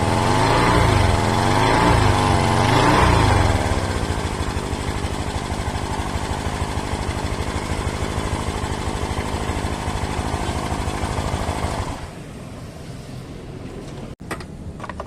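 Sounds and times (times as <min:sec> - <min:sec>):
scooter engine idling with clatter: 0:00.0 - 0:12.5, 0:13.6 - 0:15.0.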